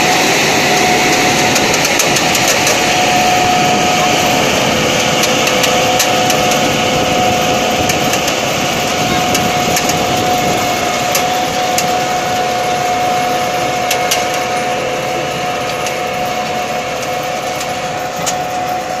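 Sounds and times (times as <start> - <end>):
constant machine whine: 0.0 - 19.0
tractor engine under load: 0.0 - 19.0.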